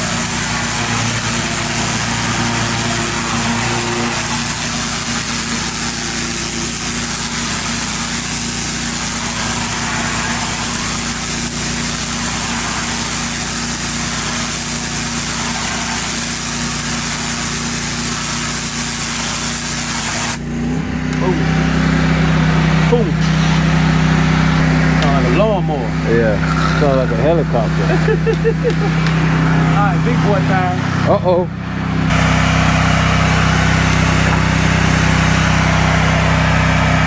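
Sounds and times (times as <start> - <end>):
water spray hissing: 0.0 - 20.4, 21.4 - 31.0, 32.1 - 37.0
pressure washer engine running: 0.0 - 37.0.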